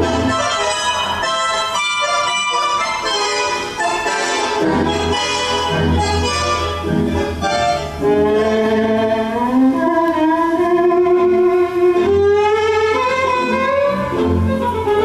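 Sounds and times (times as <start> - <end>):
held string melody: 0.0 - 15.0.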